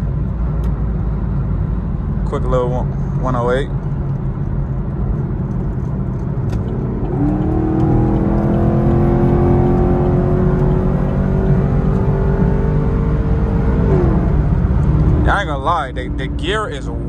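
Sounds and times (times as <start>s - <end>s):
car engine accelerating: 0.0s - 17.0s
road rumble: 0.0s - 17.0s.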